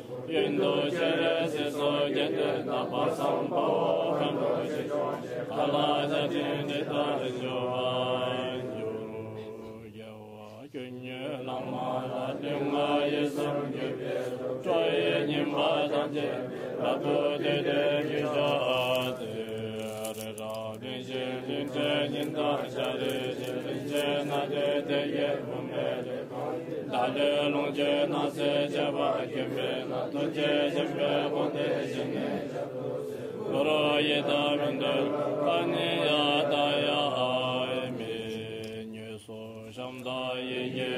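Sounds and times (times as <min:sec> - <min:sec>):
person chanting a mantra: 0:00.0 - 0:40.9.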